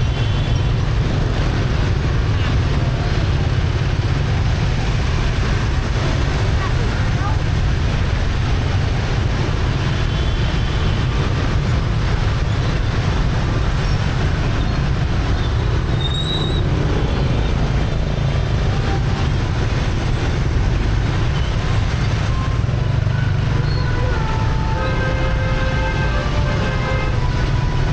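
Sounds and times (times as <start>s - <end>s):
traffic engines and road noise: 0.0s - 27.9s.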